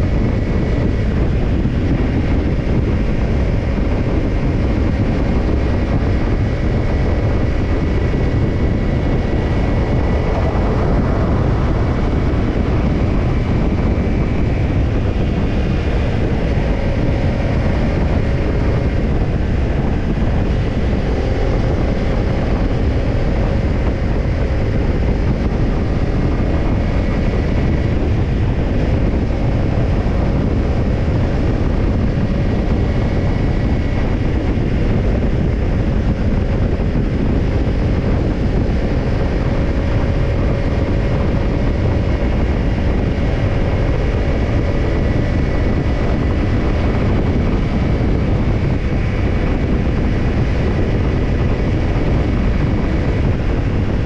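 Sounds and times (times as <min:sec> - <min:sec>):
motorcycle engine running: 0:00.0 - 0:54.0
wind rush over microphone: 0:00.0 - 0:54.0.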